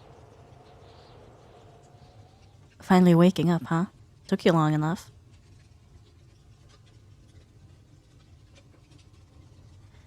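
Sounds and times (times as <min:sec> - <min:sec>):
fireplace crackling: 0:00.0 - 0:10.0
low steady hum: 0:00.0 - 0:10.0.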